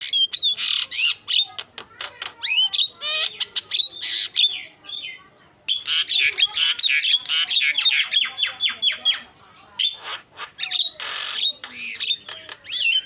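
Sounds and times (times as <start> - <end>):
bird chattering and whistling: 0.0 - 13.0.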